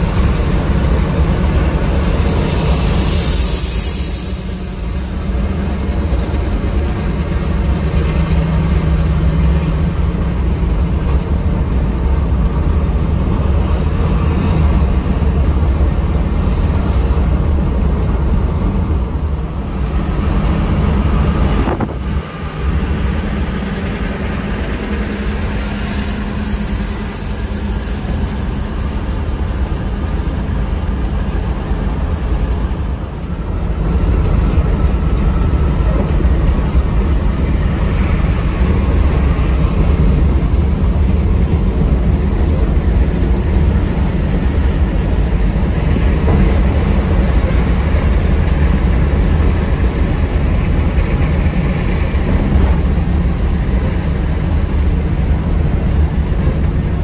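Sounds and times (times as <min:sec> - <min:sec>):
coach engine drone: 0:00.0 - 0:57.0
road noise: 0:00.0 - 0:57.0.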